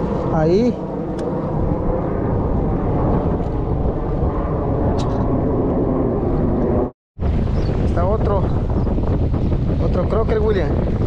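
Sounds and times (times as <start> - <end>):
loud outdoor roar: 0.0 - 11.0.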